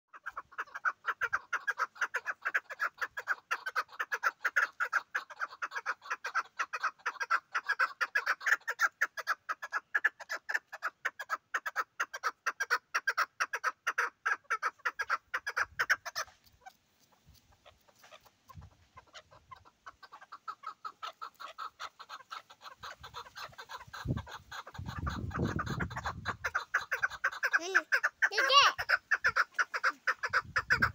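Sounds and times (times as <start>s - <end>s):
partridge clucking call: 0.1s - 30.9s.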